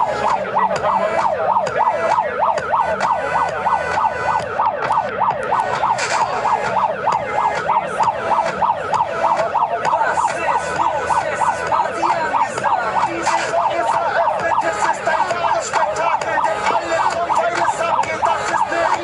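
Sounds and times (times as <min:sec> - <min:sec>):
siren wailing in fast yelp: 0:00.0 - 0:19.0.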